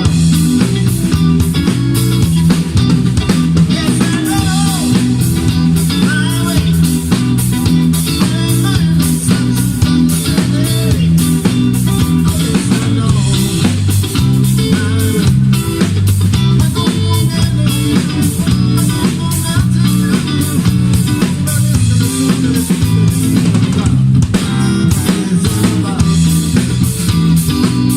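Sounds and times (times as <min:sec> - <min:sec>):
band music with guitar and drums: 0:00.0 - 0:27.9.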